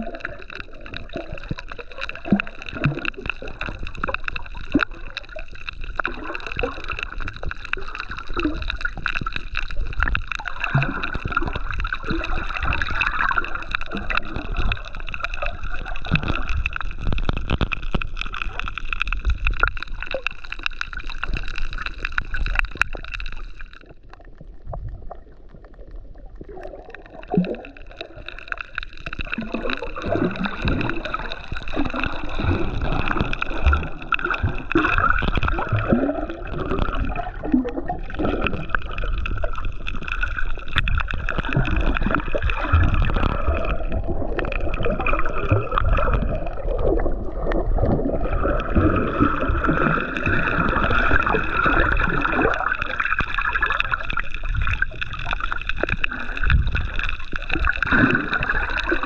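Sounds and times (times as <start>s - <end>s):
underwater gurgling and sloshing: 0.0s - 59.0s.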